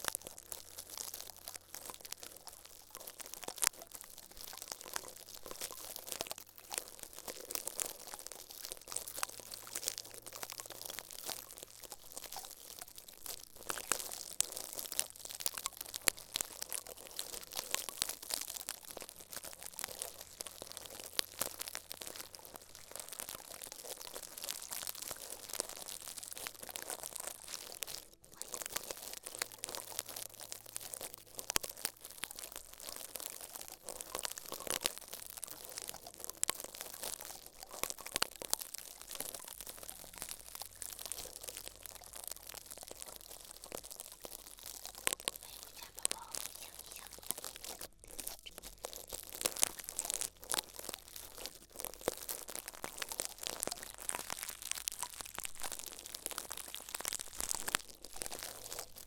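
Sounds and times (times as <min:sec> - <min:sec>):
crinkling and crackling: 0:00.0 - 0:59.0.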